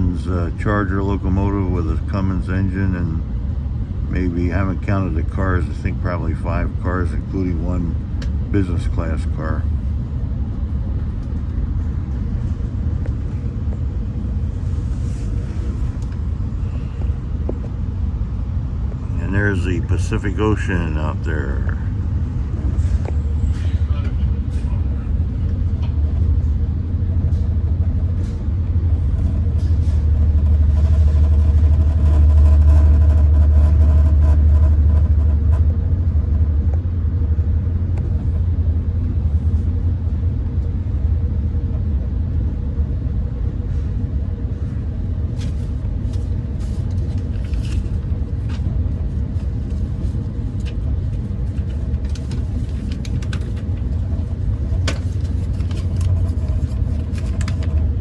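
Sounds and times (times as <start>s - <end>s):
train wheels rumbling: 9.4s - 58.0s.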